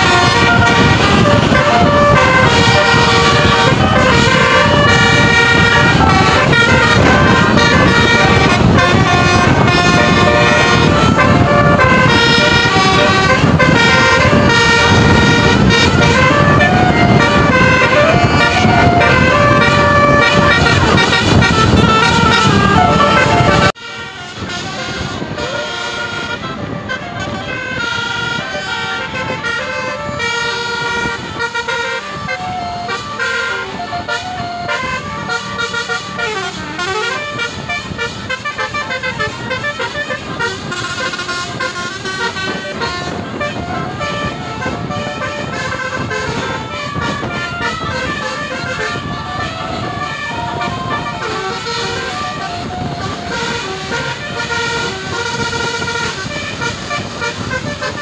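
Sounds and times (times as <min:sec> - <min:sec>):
bus engine and road noise: 0:00.0 - 0:58.0
bus horn playing fast melody: 0:00.0 - 0:58.0.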